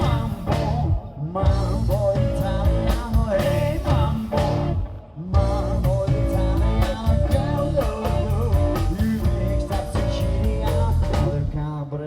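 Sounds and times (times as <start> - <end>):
steady drum beat: 0.0 - 4.8, 5.4 - 11.6
live band playing upbeat music: 0.0 - 11.7.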